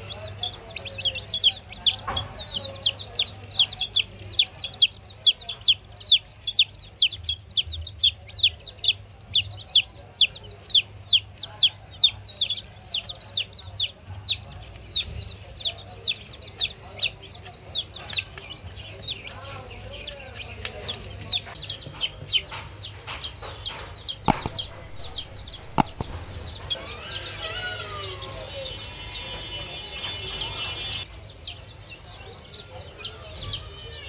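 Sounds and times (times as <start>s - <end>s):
baby chicks peeping: 0.0s - 34.0s.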